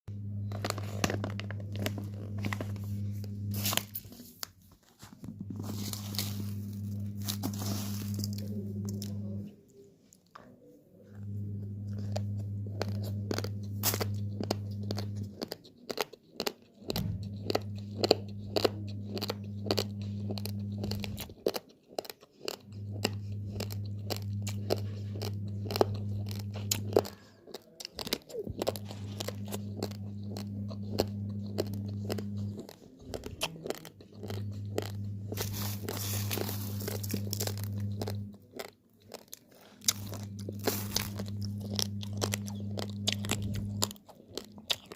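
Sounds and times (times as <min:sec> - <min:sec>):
low hum: 0:00.1 - 0:15.4, 0:16.9 - 0:21.4, 0:22.6 - 0:27.3, 0:28.4 - 0:38.5, 0:39.7 - 0:44.9
crunchy rice chewing: 0:00.2 - 0:09.6, 0:11.0 - 0:44.9.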